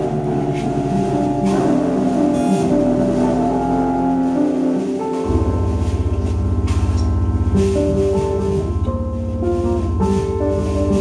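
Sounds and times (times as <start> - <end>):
rapidly pulsing low drone: 0.0 - 11.0
sustained pitched notes: 0.0 - 11.0.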